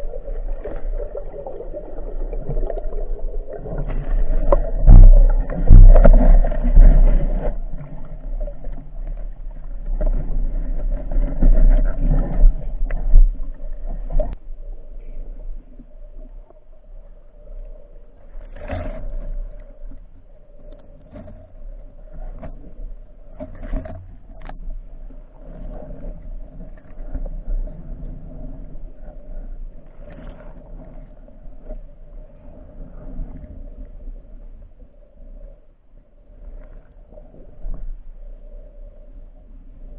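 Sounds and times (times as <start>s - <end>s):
muffled underwater rushing: 0.0s - 39.9s.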